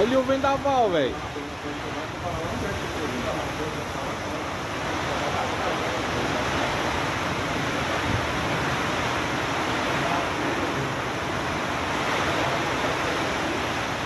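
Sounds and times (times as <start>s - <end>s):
wind-driven heavy rain: 0.0s - 14.0s.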